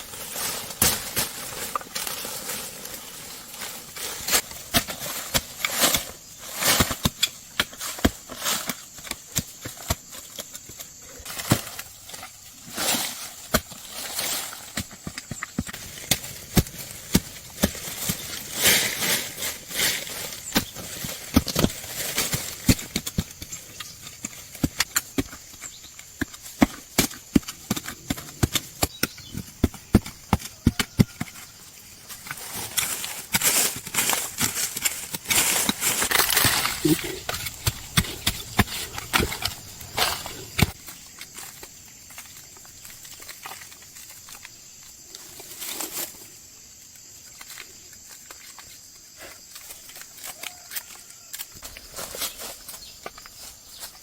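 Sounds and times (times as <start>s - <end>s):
digging in soil: 0.0s - 54.0s.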